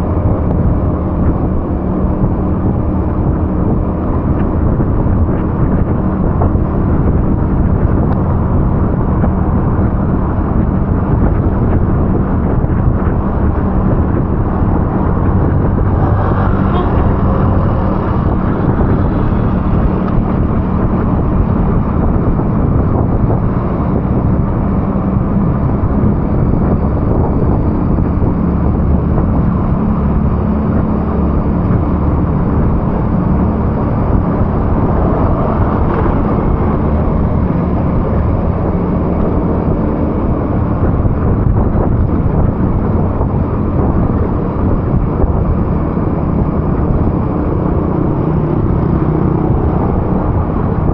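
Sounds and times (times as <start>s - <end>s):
low hum: 0.0s - 50.9s
road noise on wet streets: 0.0s - 50.9s
vehicle engine: 0.0s - 50.9s.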